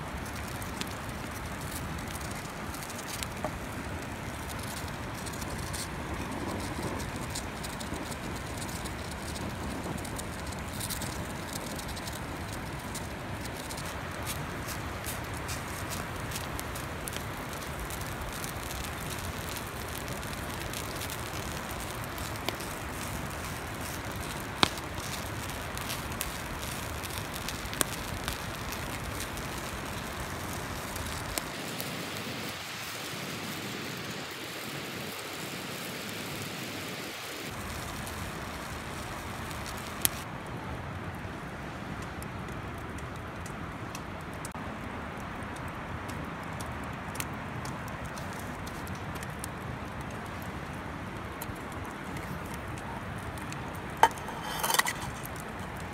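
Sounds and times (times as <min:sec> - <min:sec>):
fire crackling pops: 0:00.0 - 0:55.9
wood fire hissing: 0:00.0 - 0:55.9.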